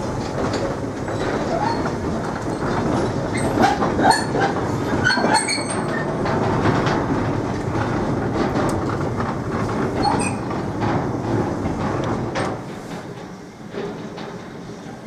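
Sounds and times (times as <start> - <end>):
train wagons rumbling past: 0.0 - 15.0
wheels clicking over rail joints: 0.0 - 15.0.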